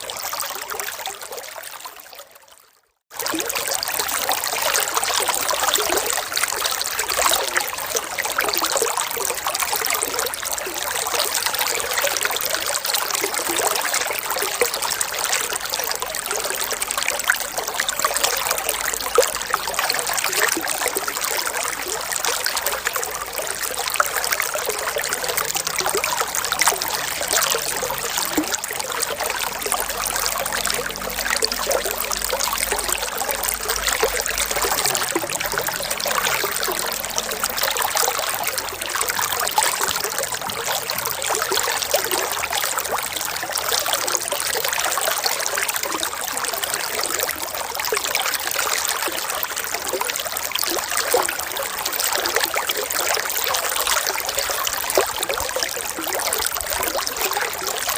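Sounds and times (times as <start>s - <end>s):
water trickling: 0.0s - 57.9s.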